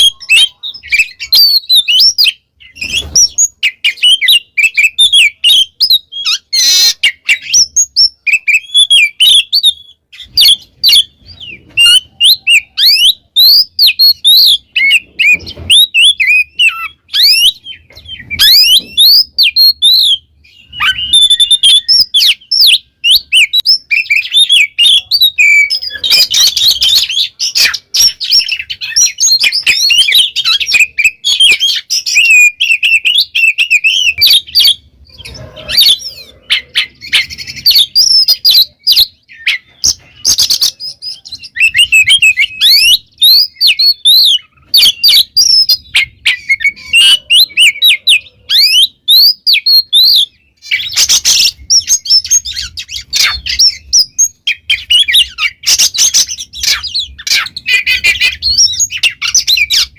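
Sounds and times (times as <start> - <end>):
songbird singing with harsh notes: 0.0 - 59.9.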